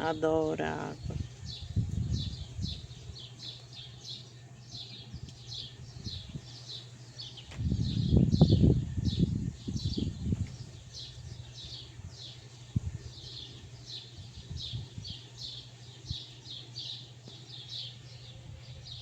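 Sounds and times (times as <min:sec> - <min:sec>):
low steady hum: 0:00.0 - 0:19.0
small bird chirping: 0:00.0 - 0:19.0.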